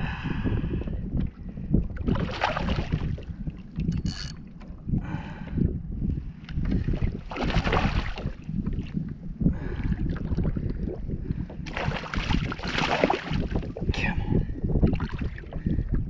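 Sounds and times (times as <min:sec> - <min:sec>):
water lapping around kayak: 0:00.0 - 0:16.0
wind buffeting microphone: 0:00.0 - 0:16.0.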